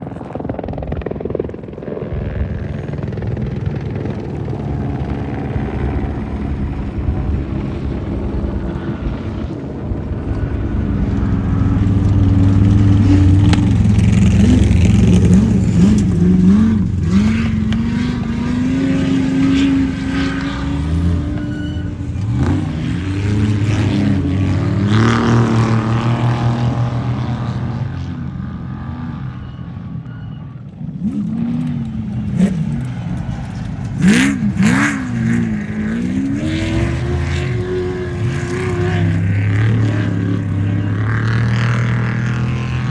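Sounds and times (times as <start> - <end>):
race vehicle engines revving: 0.0 - 42.9.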